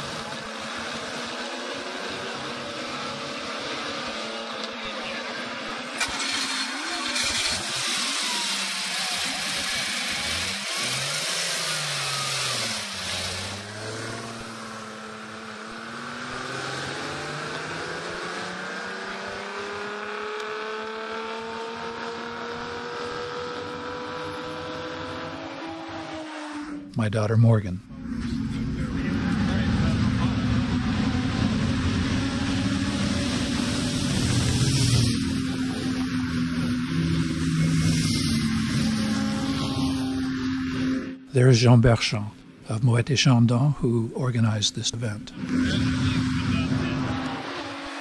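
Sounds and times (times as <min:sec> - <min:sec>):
racing car engine revving: 0:00.0 - 0:27.0, 0:27.9 - 0:41.3, 0:45.1 - 0:48.0.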